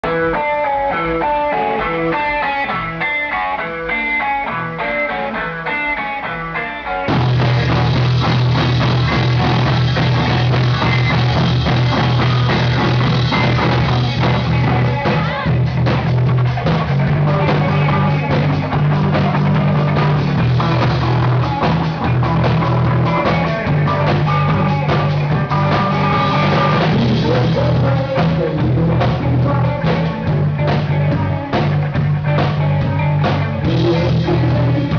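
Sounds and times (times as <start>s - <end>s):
guitar picking single notes: 0.0s - 34.9s
rock band playing: 0.0s - 34.9s.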